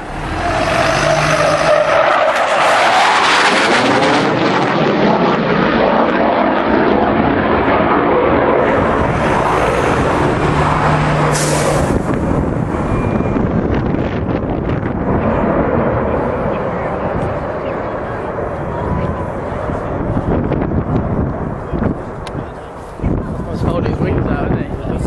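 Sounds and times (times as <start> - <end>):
jet passing overhead: 0.0 - 25.0.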